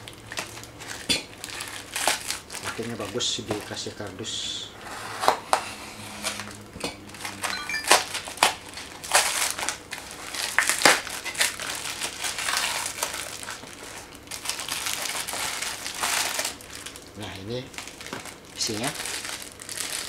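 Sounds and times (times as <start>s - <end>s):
plastic wrapping crinkling: 0.0s - 4.1s, 7.1s - 20.0s.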